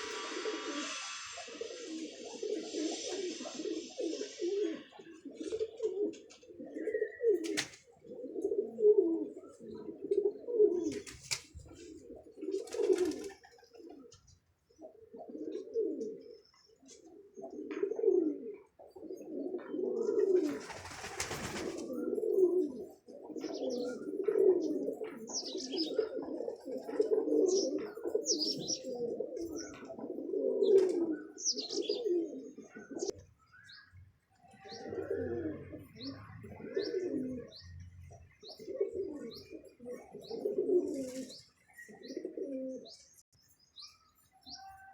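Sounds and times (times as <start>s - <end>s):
pigeons cooing: 0.0s - 33.9s, 34.5s - 43.2s.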